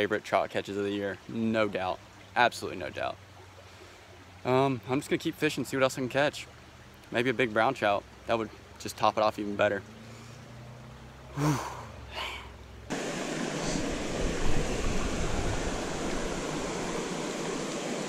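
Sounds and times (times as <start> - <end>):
flowing creek water: 0.0 - 18.0.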